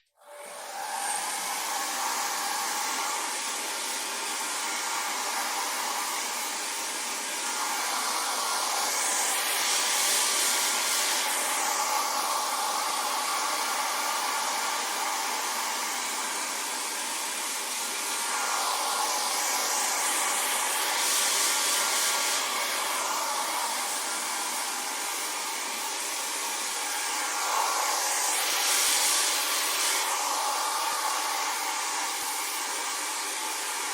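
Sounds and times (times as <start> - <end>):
hair dryer running: 0.2 - 33.9.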